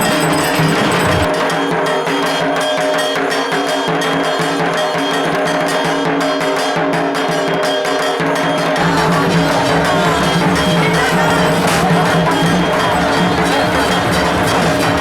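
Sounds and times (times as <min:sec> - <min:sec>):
quick percussion beat: 0:00.0 - 0:15.0
ringing bell-like tones: 0:00.0 - 0:15.0.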